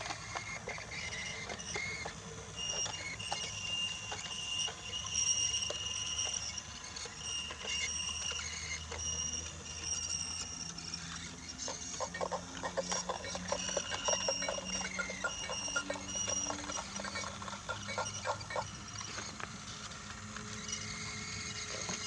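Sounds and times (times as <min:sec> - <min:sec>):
toy train whine: 0:00.0 - 0:22.0
wheels clicking over track joints: 0:00.0 - 0:22.0.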